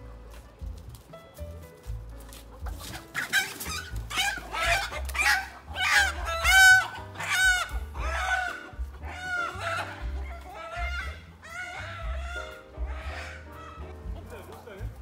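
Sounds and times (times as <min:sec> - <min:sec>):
background music: 0:00.0 - 0:15.0
chickens squawking and clucking: 0:02.0 - 0:15.0.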